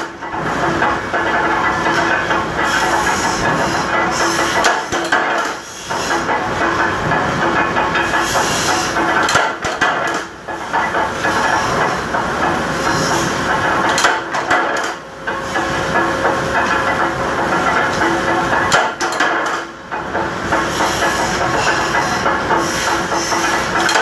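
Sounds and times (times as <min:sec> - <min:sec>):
punch press machine noise: 0:00.0 - 0:24.0.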